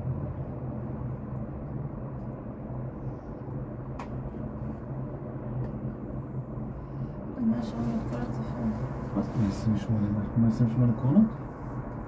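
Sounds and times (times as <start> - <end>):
cable car rumbling hum: 0.0 - 12.0.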